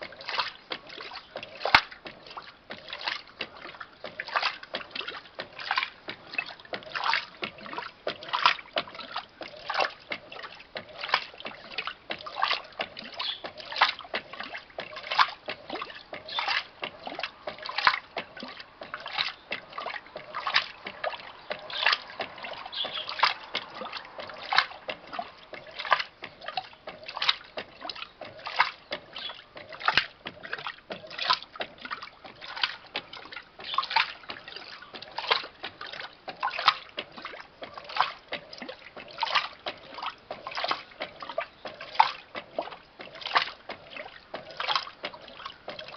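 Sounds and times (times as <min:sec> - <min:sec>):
washing machine water sloshing: 0:00.0 - 0:45.9.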